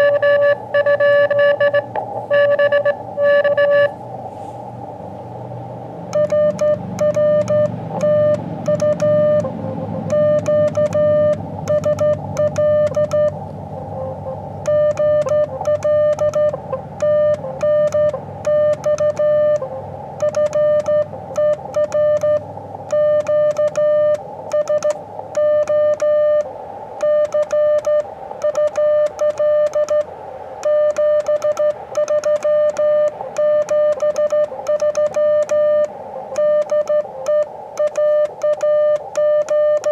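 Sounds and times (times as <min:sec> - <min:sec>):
morse code beeps: 0:00.0 - 0:04.0, 0:06.1 - 0:13.4, 0:14.6 - 0:39.9.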